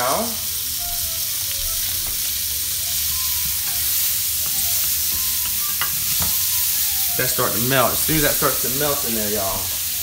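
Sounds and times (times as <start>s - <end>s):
onions and butter sizzling in oil: 0.0s - 10.0s.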